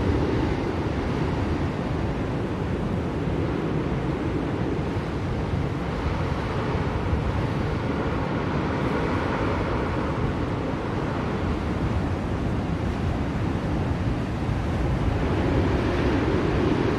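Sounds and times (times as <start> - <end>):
blizzard wind blowing: 0.0 - 16.9.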